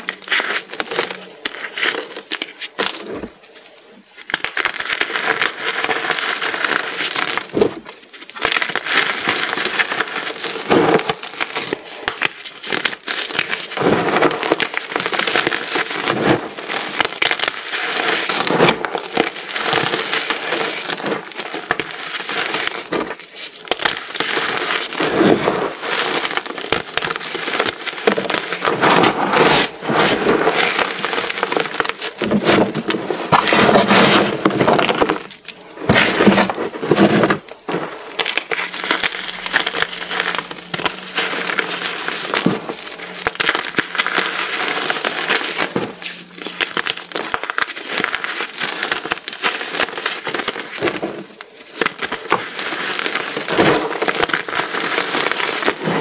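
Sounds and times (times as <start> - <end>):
chalk crunching and crackling: 0.0 - 56.0.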